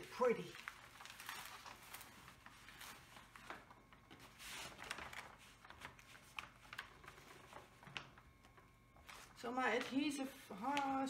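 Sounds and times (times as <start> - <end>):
canvas and paper rustling: 0.0 - 11.0.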